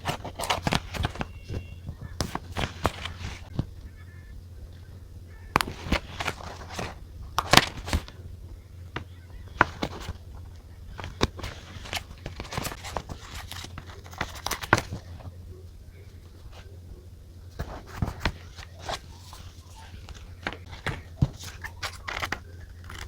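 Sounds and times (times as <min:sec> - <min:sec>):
low steady hum: 0:00.0 - 0:23.0
paper rustling: 0:00.0 - 0:23.0.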